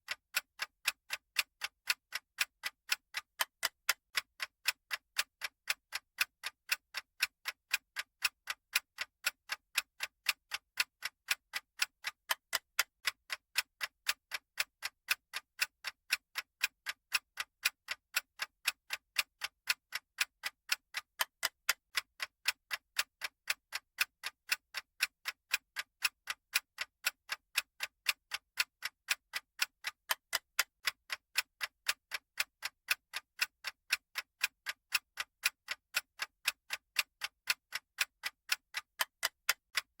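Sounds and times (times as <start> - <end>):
clock ticking: 0.0 - 40.0.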